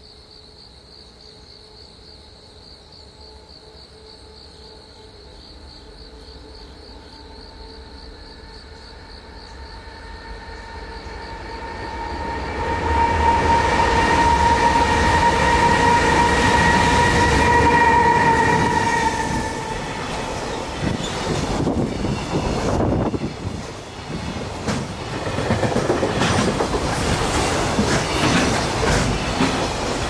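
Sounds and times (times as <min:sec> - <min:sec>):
electric freight train passing: 0:03.0 - 0:30.0.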